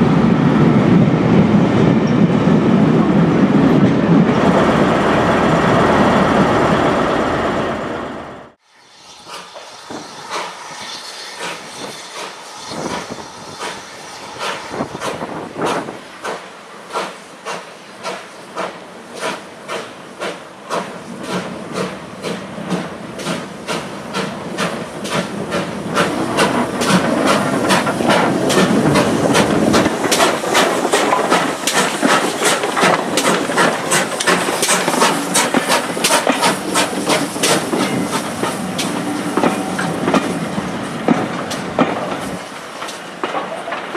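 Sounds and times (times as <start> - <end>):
steam locomotive exhaust beats: 3.8 - 43.9
steam hissing: 8.6 - 43.9.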